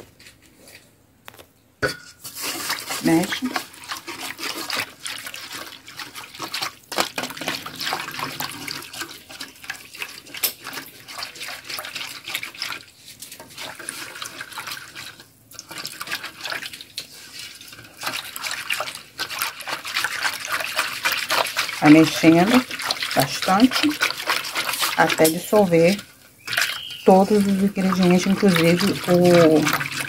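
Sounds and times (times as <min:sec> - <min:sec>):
whisk sloshing liquid in bowl: 0:02.2 - 0:30.0.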